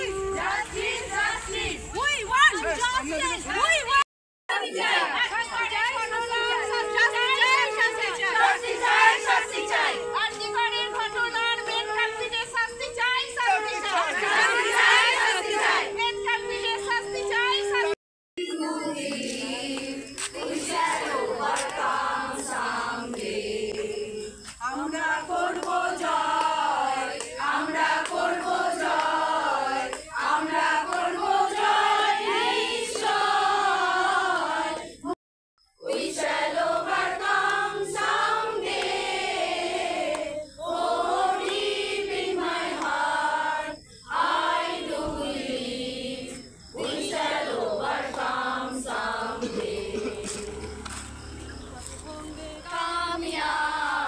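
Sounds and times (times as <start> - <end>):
group of people singing: 0.0 - 1.9, 4.5 - 12.3, 13.6 - 54.0.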